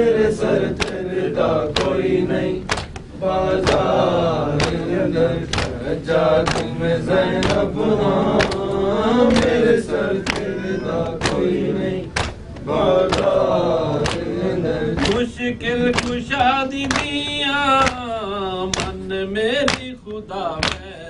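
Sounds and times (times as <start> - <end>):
men chanting in unison: 0.0 - 21.0
rhythmic chest-beating slaps: 0.0 - 21.0.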